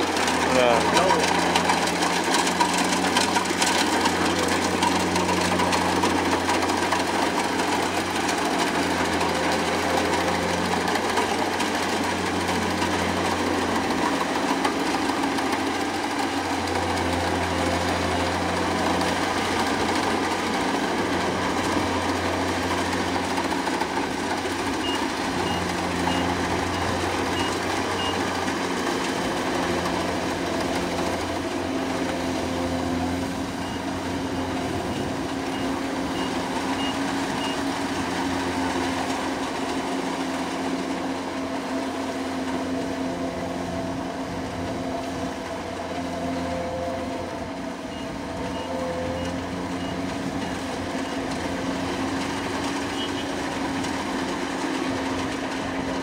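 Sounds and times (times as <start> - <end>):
combine harvester engine running: 0.0 - 56.0.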